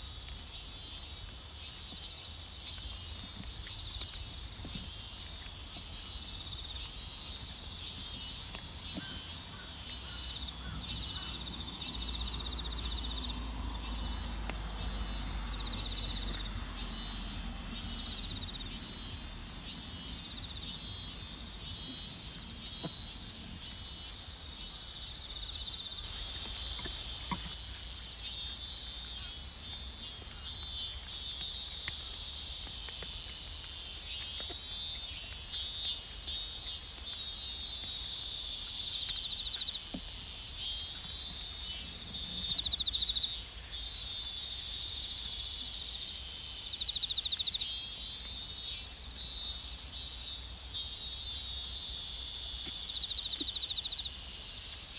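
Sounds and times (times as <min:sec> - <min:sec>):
crickets chirping and trilling: 0:00.0 - 0:54.9.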